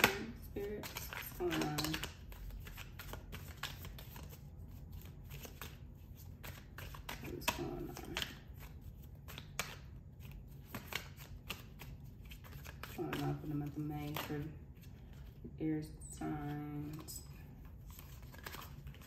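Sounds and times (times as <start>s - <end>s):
cards being shuffled: 0.0s - 15.4s, 16.3s - 19.0s.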